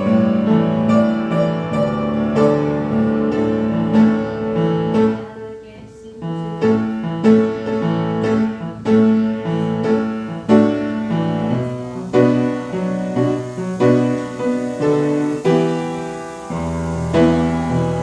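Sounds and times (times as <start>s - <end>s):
piano playing chords: 0.0s - 18.0s.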